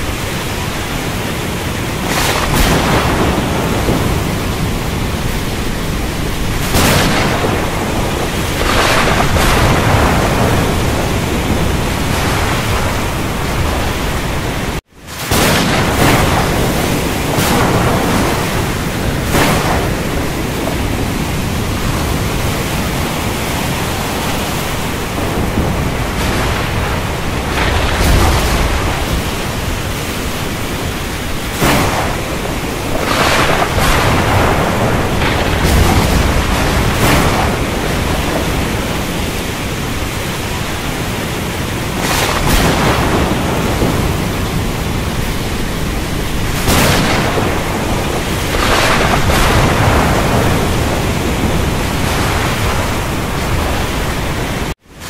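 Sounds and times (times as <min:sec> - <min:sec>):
thunder cracks and rumbles: 0:00.0 - 0:54.8
heavy rain hissing: 0:00.0 - 0:55.0.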